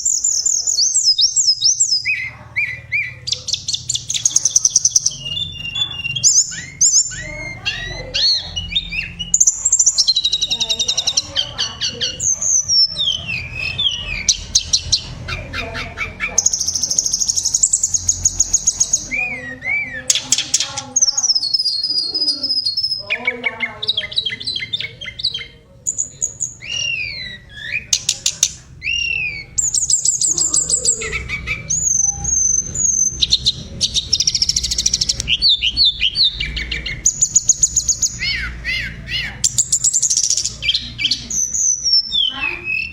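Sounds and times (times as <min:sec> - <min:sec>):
small bird singing: 0:00.0 - 0:42.9.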